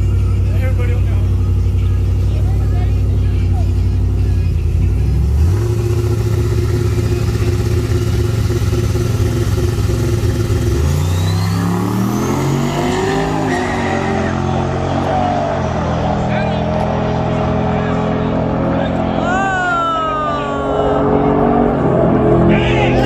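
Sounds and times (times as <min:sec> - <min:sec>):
vehicle engine revving: 0:00.0 - 0:19.4.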